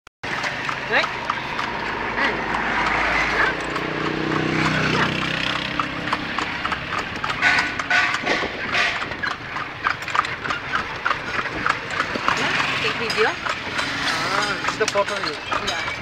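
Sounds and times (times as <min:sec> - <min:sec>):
horse hooves on paved road: 0:00.2 - 0:16.0.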